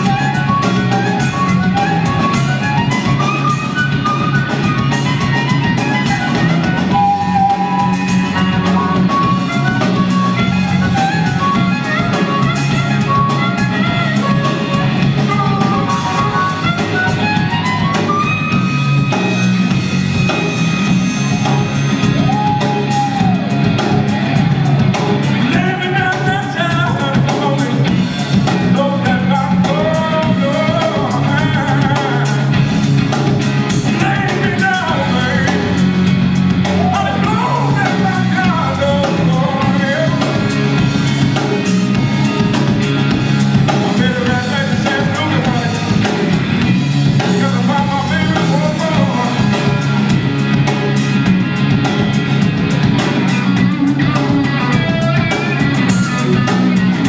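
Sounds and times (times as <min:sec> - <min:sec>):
amplified blues harmonica: 0:00.0 - 0:57.0
electric blues band playing: 0:00.0 - 0:57.0.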